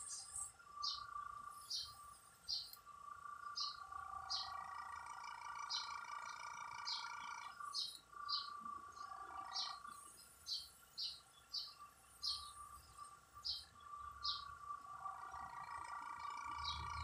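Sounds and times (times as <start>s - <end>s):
faint hum: 0.0s - 17.0s
small bird chirping: 0.0s - 17.0s.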